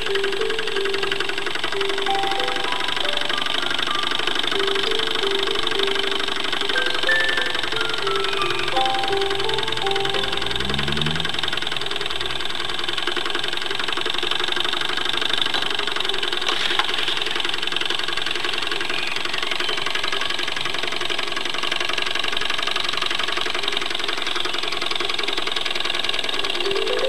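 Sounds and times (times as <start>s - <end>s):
toy steam engine chuffing: 0.0s - 27.0s.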